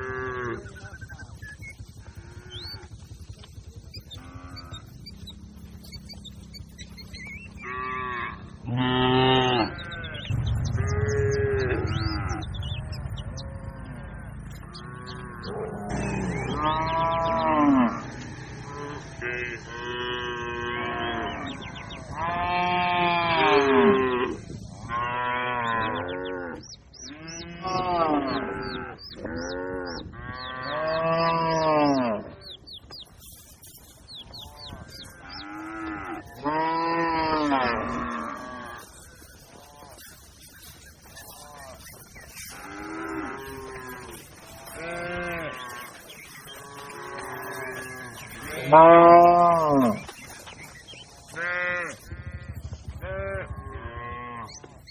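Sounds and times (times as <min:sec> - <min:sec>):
cattle mooing: 0:00.0 - 0:00.9, 0:04.0 - 0:06.6, 0:07.2 - 0:32.6, 0:34.3 - 0:50.4, 0:51.2 - 0:54.7.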